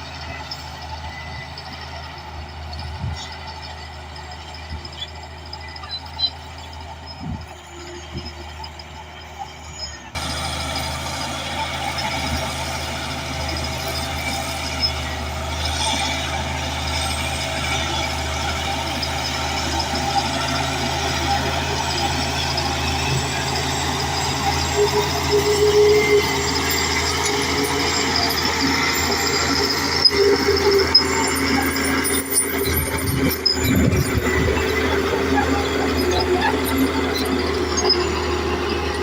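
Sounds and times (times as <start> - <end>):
bulldozer diesel engine running: 0.0 - 39.0
mechanical rumble and grind: 0.0 - 39.0.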